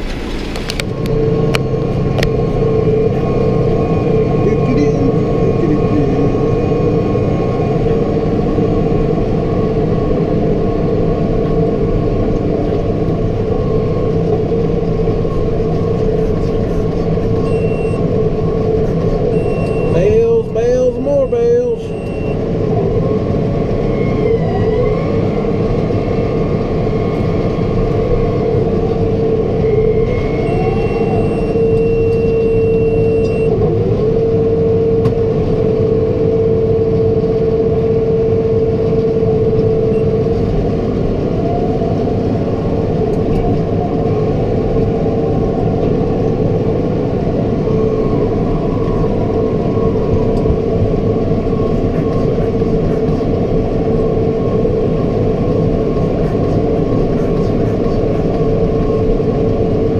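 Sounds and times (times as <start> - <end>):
baler machinery whine: 0.0 - 59.9
tractor engine running: 0.0 - 59.9.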